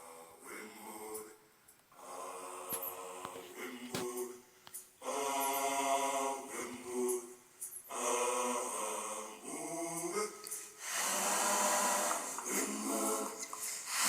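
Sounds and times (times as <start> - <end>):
unaccompanied voices singing: 0.0 - 14.0.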